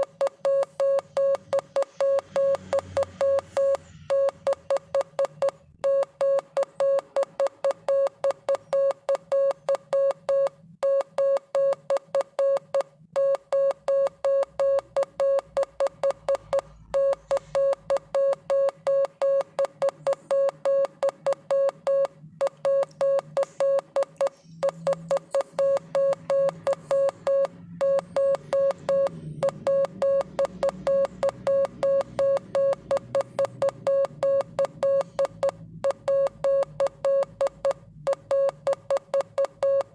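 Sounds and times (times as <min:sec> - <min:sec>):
morse code beeping: 0:00.0 - 0:39.9.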